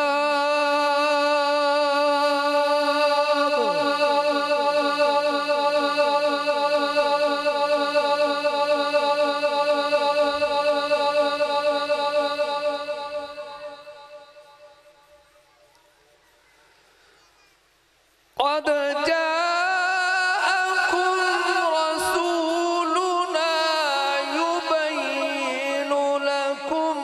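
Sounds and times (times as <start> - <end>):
man reciting over loudspeaker: 0.0 - 15.4, 18.4 - 27.0.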